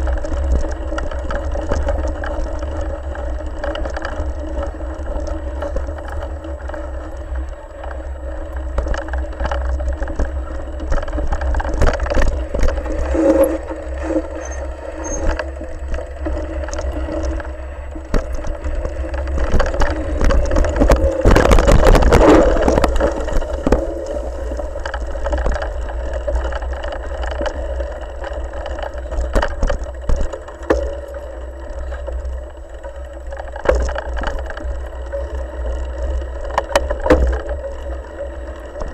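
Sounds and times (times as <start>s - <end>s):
bike rattles and knocks: 0.0s - 38.9s
wind and vibration rumble: 0.0s - 38.9s.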